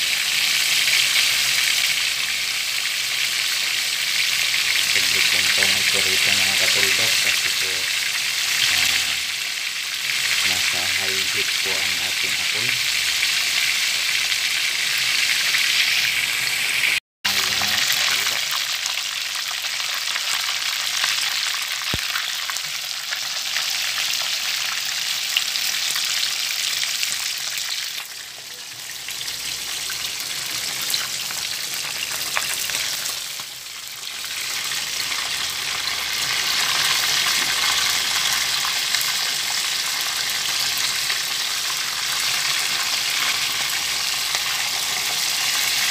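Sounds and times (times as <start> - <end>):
fish sizzling in hot oil: 0.0 - 45.9.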